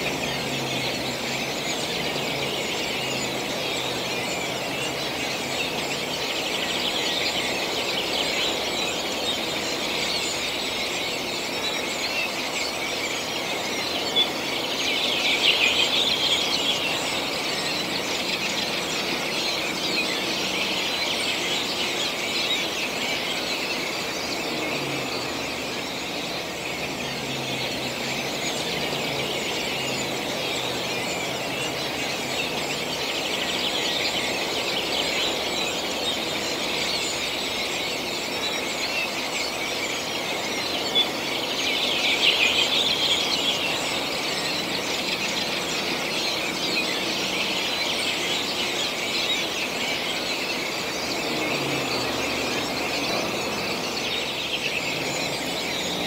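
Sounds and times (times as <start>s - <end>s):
songbirds chorus twittering: 0.0s - 56.0s.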